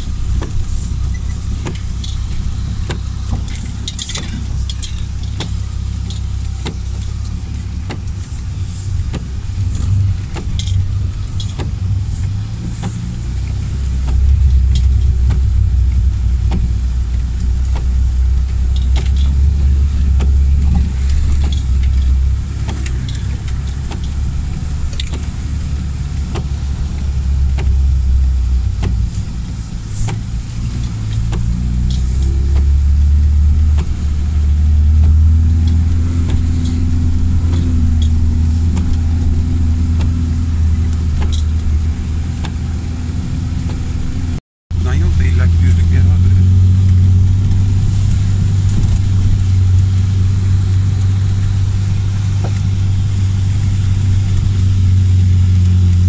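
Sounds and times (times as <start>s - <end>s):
car engine droning in cabin: 0.0s - 56.0s
sharp clicks and knocks: 0.3s - 29.3s, 30.0s - 47.8s.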